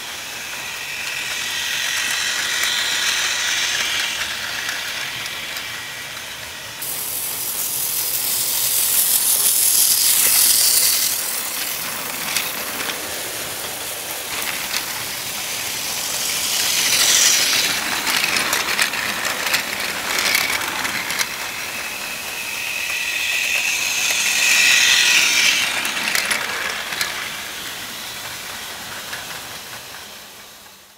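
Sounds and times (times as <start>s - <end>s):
toy train motor whirring: 0.0s - 30.4s
wheels clicking over track: 0.0s - 30.8s.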